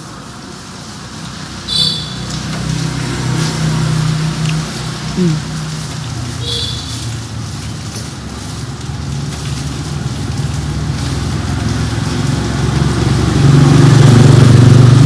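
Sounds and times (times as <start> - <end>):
motorbike engine running: 1.6 - 15.0.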